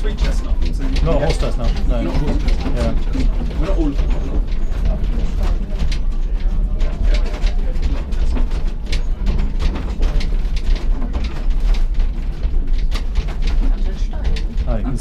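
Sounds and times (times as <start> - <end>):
funicular car rumbling: 0.0 - 15.0
wheels clicking on track: 0.0 - 15.0.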